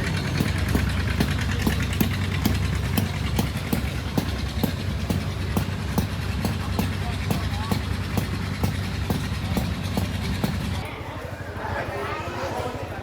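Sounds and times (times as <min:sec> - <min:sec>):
old engine knocking: 0:00.0 - 0:10.8.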